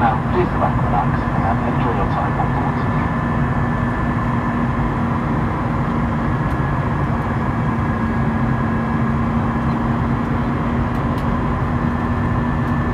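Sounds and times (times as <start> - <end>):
jet engine drone: 0.0 - 12.9.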